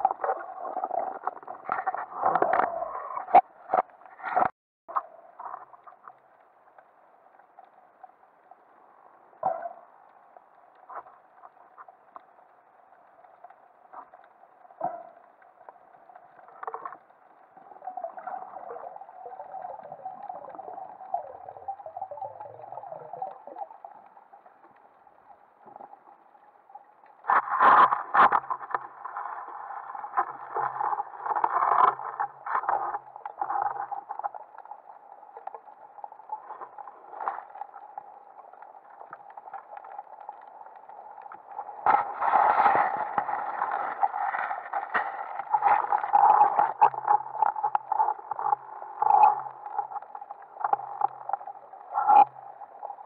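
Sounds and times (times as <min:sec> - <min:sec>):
muffled underwater clicks and knocks: 0:00.0 - 0:07.8, 0:09.4 - 0:53.0.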